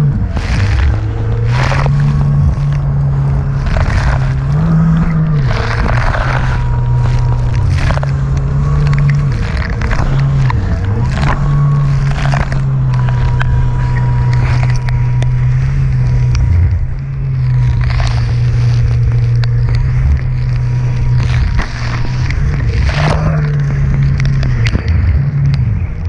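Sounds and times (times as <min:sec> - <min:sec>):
jetski engine running: 0:00.0 - 0:26.0
water splashing against hull: 0:00.0 - 0:26.0.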